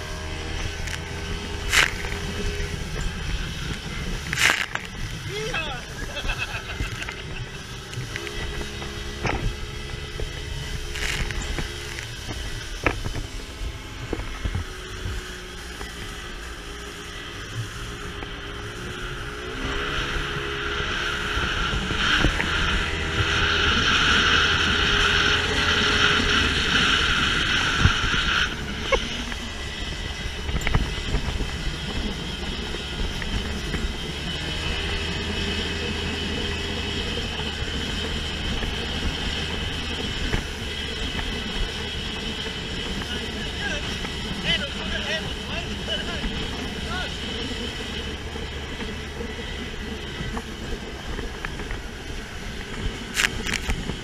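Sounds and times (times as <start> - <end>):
outboard motor running: 0.0 - 54.0
wind buffeting microphone: 0.0 - 54.0.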